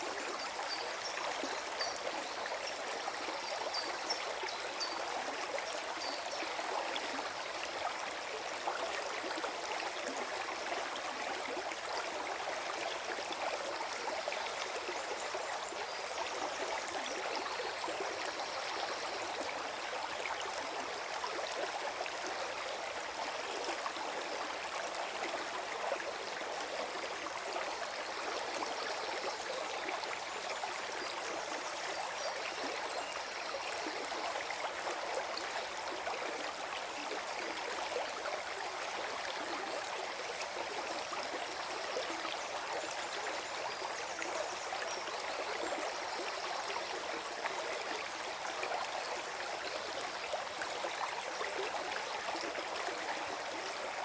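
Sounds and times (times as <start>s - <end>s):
stream gurgling: 0.0s - 54.0s.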